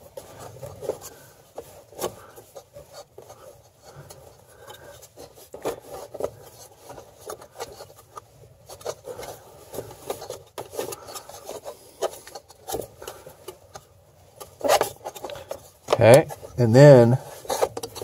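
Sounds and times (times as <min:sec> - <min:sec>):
rubber belt rubbing on fan: 0:00.0 - 0:18.0.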